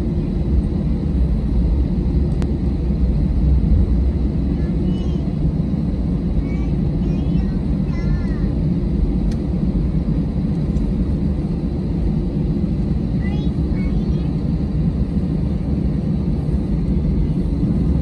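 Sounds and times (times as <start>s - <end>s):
jet engines at low thrust: 0.0s - 18.0s.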